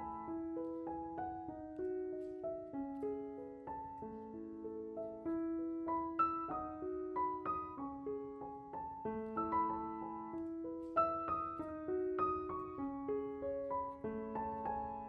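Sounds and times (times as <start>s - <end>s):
gentle solo piano melody: 0.0s - 15.0s.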